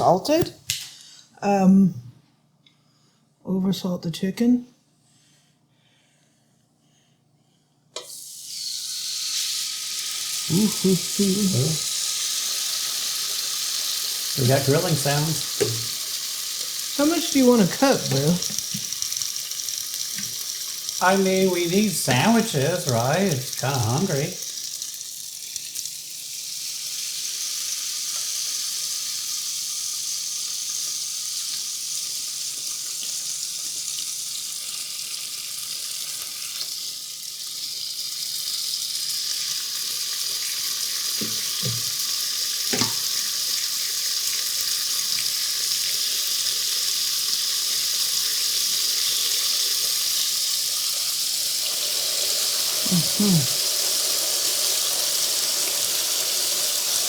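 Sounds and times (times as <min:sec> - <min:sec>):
chicken sizzling on a grill: 0:08.0 - 0:57.0.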